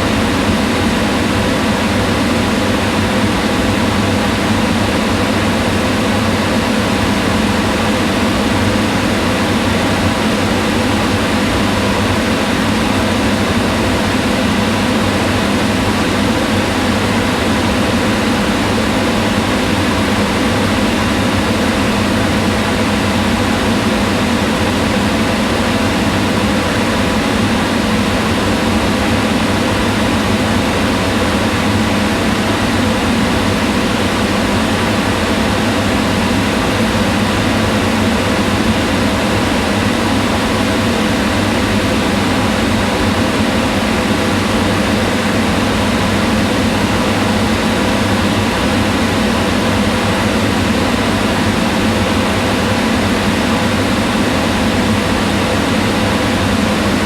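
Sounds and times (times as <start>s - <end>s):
range hood fan humming: 0.0s - 57.0s.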